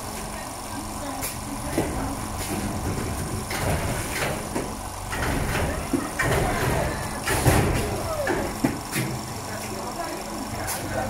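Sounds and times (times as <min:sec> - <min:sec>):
machine low mechanical rumble: 0:00.0 - 0:11.0.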